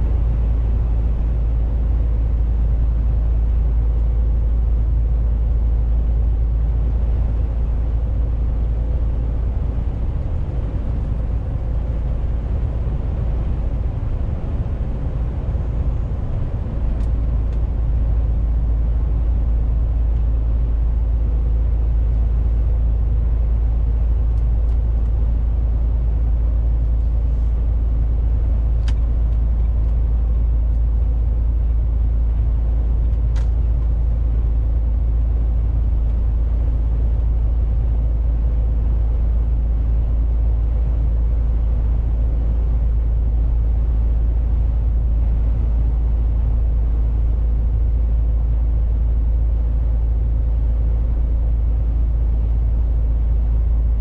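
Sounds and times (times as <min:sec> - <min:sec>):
truck cab engine drone: 0:00.0 - 0:54.0.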